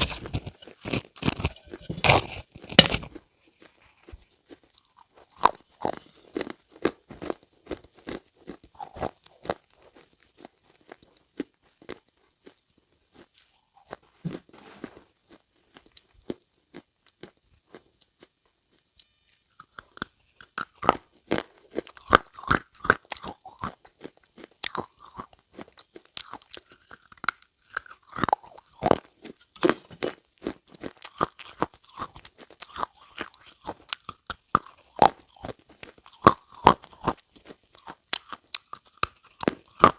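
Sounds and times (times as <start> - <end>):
crunching and crackling snaps: 0.0 - 39.9.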